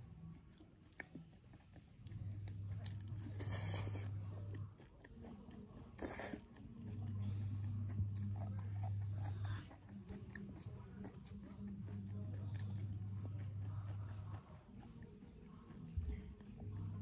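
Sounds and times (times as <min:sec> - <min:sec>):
chewing food with mouth clicks: 0:00.0 - 0:17.0
steady low hum: 0:00.0 - 0:17.0.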